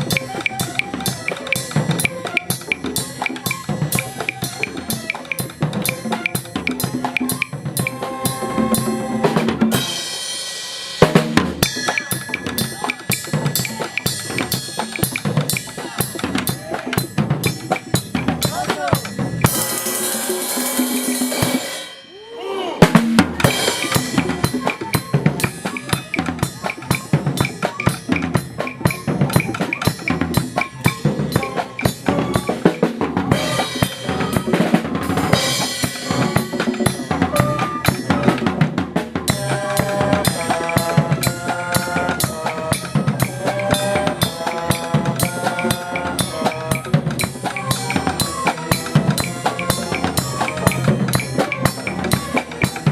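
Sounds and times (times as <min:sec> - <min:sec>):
held melody notes: 0:00.0 - 0:10.4, 0:11.1 - 0:52.9
drum kit beat: 0:00.0 - 0:52.9.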